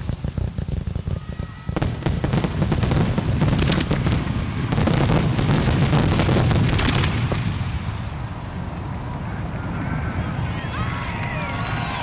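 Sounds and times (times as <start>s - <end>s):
fireworks bursts and crackling: 0.0s - 12.0s.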